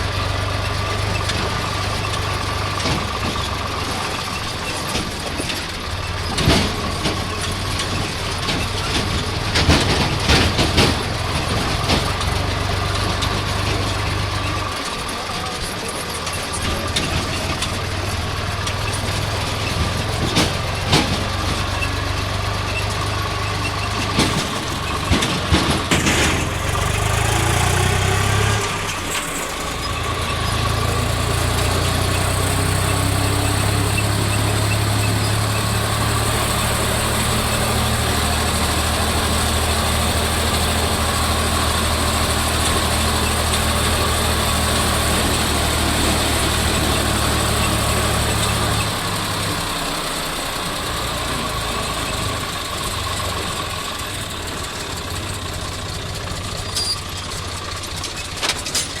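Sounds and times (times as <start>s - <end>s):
tractor diesel engine running: 0.0s - 59.0s
sharp engine knocks: 0.1s - 59.0s.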